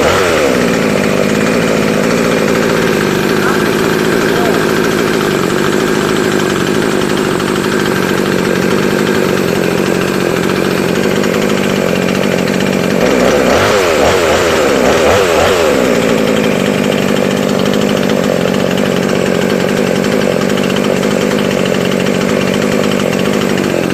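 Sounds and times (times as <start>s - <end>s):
chainsaw running: 0.0s - 23.9s.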